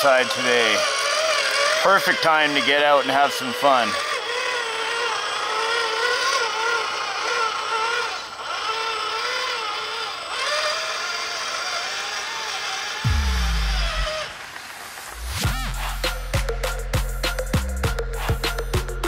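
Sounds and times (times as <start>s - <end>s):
toy truck motor whining: 0.0s - 19.0s.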